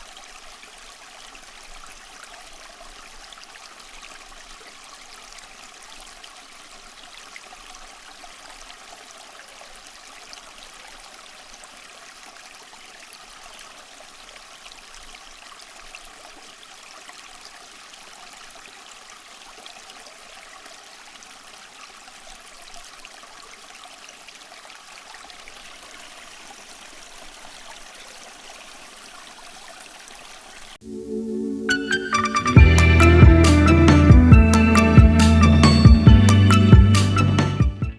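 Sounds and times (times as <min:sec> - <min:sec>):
water trickling in a fountain: 0:00.0 - 0:30.8.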